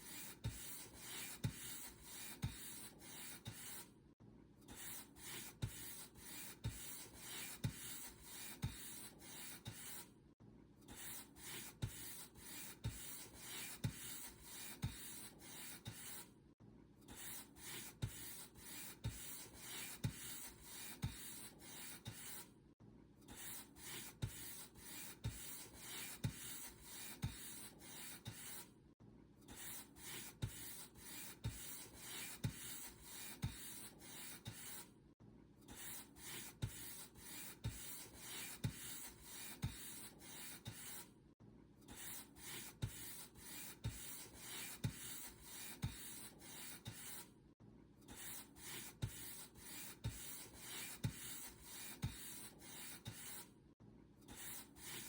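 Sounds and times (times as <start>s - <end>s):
paint brush stroking a surface: 0.0s - 3.9s, 4.8s - 10.1s, 11.0s - 16.3s, 17.2s - 22.5s, 23.4s - 28.7s, 29.5s - 34.9s, 35.7s - 41.1s, 41.9s - 47.3s, 48.1s - 53.5s, 54.3s - 55.0s.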